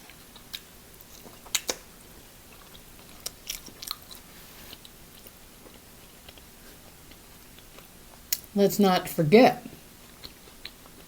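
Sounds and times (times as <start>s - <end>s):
close chewing of food: 0.0s - 8.6s, 9.8s - 11.0s.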